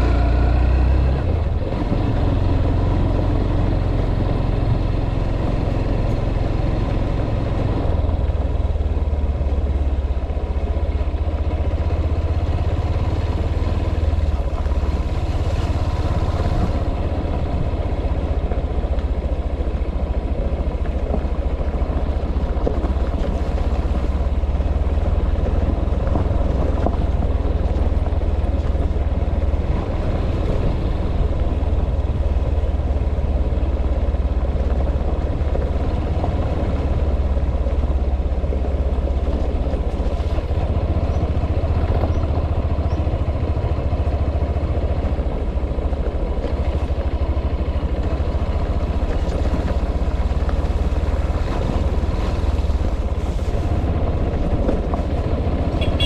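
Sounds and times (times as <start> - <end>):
vehicle engine low rumble: 0.0 - 56.0.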